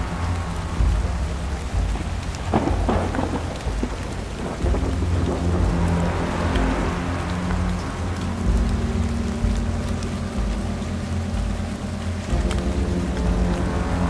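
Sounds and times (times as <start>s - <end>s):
heavy rain falling: 0.0s - 14.0s
thunder crackle: 0.0s - 14.0s
thunder rumbling: 0.0s - 14.0s.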